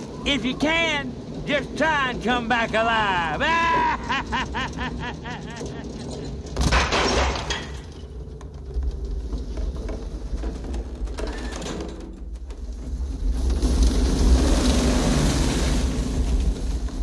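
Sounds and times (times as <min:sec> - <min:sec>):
mine cart rattling on rails: 0:00.0 - 0:17.0.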